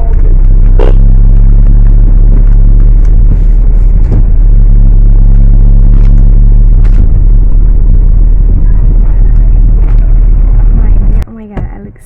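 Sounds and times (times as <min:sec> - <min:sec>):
vehicle rumbling on road: 0:00.0 - 0:12.0.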